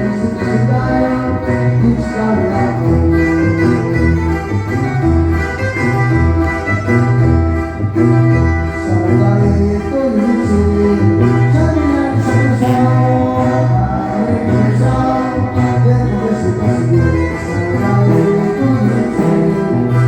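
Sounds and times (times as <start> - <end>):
brass melody instruments: 0.0 - 20.0
tuba bass line: 0.0 - 20.0.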